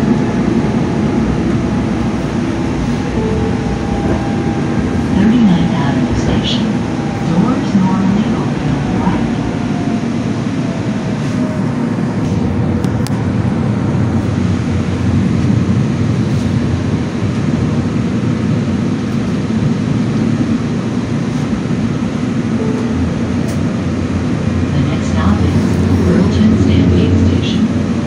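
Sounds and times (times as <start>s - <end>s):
metro train rumbling: 0.0s - 28.0s.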